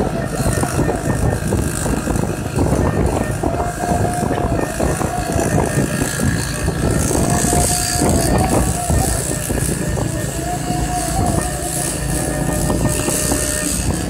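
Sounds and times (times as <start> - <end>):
scooter engine running: 0.0 - 14.0
wind rumble on microphone: 0.0 - 14.0.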